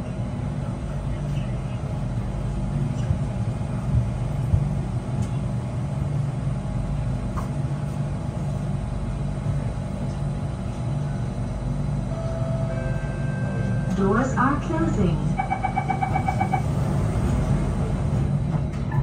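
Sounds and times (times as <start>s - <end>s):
train hum at platform: 0.0s - 19.0s.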